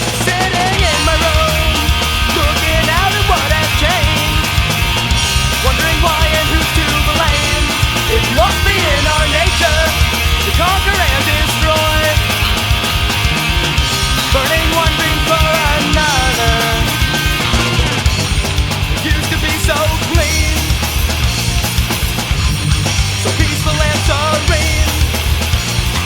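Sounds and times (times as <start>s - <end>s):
melodic lead guitar line: 0.0s - 26.0s
punk rock band: 0.0s - 26.0s.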